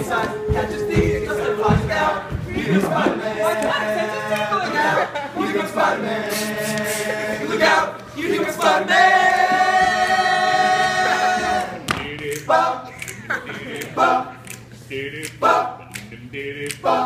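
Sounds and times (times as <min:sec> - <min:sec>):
male a cappella group singing: 0:00.0 - 0:17.0.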